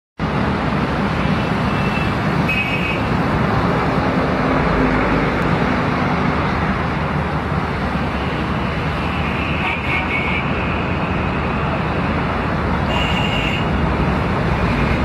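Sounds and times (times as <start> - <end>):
city traffic noise: 0.2 - 15.0.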